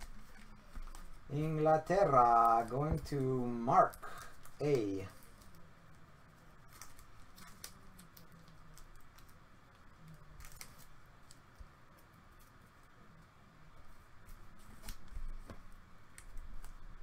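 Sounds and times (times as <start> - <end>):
plastic card sleeves crinkling: 0.0 - 5.6, 6.6 - 12.6, 14.2 - 17.0.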